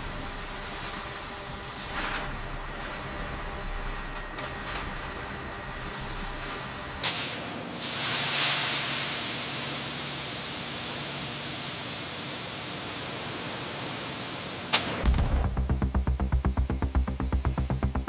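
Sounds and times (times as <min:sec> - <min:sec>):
laser cutter hissing on sheet metal: 0:00.0 - 0:04.1, 0:05.0 - 0:18.0.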